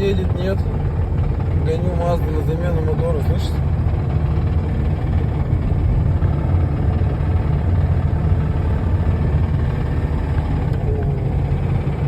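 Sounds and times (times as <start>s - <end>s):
car engine knocking loudly: 0.0s - 12.0s.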